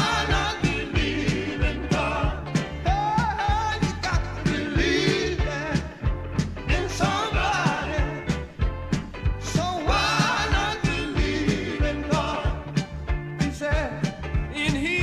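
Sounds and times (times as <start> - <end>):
soul song with singer: 0.0 - 15.0.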